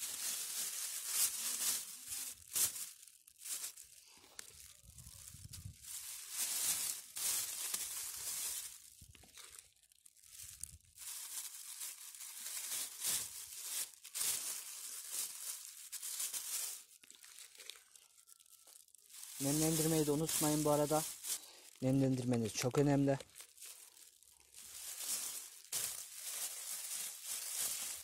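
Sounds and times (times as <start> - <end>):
plastic bag crinkling: 0.0 - 28.0.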